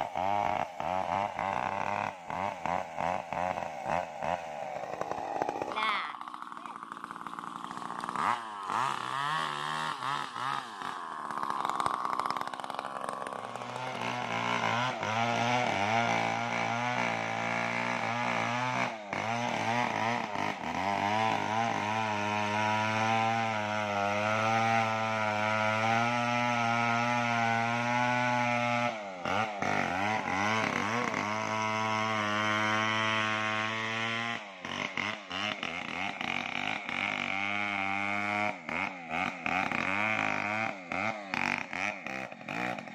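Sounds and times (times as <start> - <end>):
chainsaw cutting tree trunk: 0.0 - 42.9.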